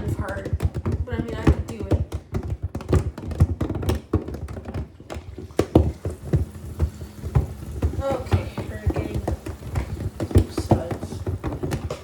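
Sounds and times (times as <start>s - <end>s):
object knocking in washing machine drum: 0.0s - 12.0s.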